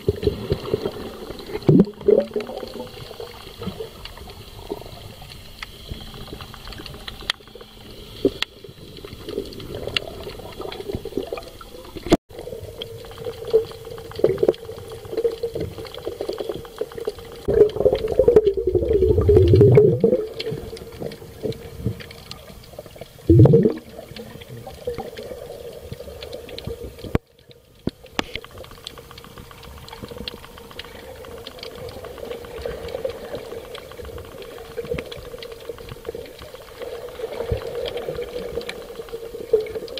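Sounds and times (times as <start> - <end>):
underwater hum with crackling: 0.0 - 39.9.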